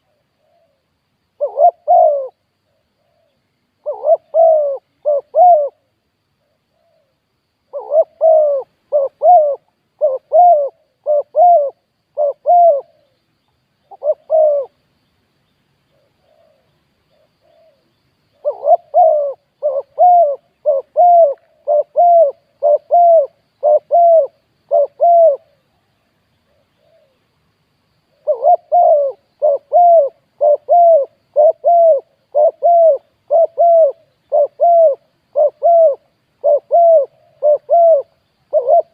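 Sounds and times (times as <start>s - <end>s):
dove cooing: 1.4s - 2.4s, 3.0s - 5.9s, 7.7s - 13.2s, 13.8s - 14.8s, 15.9s - 25.6s, 26.5s - 27.2s, 28.1s - 38.9s.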